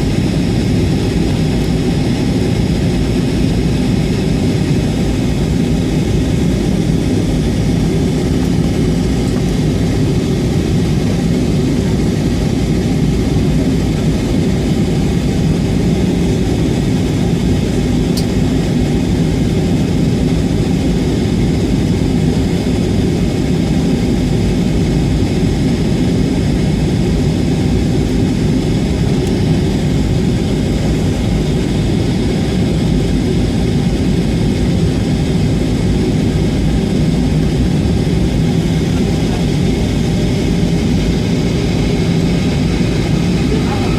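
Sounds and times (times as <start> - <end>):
jet engines droning in cabin: 0.0 - 43.9.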